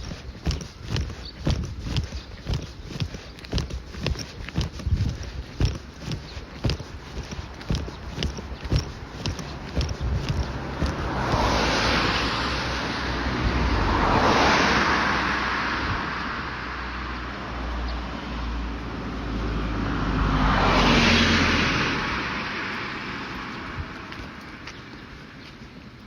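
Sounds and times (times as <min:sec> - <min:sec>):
road vehicles passing: 0:00.0 - 0:26.0.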